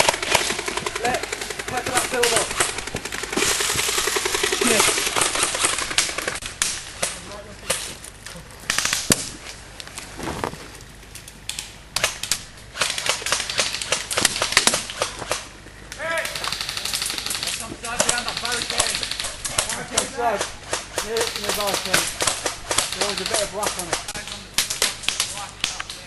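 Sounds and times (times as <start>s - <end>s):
paintball guns firing rapidly: 0.0s - 7.9s, 8.7s - 9.4s, 12.0s - 15.5s, 16.1s - 26.0s.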